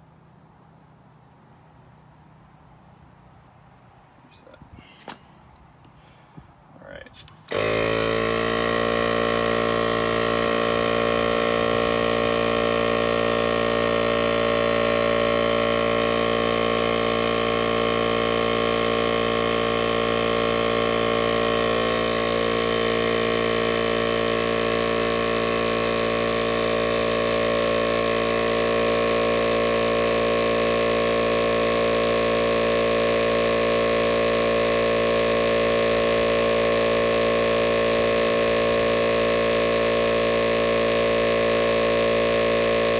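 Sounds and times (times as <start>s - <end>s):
air compressor running: 4.8s - 42.9s.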